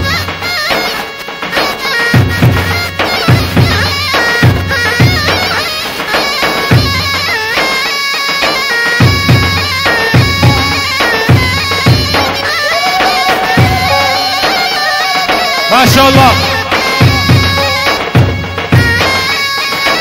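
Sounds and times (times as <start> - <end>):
drums beating dance rhythm: 0.0 - 20.0
reedy wind instrument melody: 0.0 - 20.0.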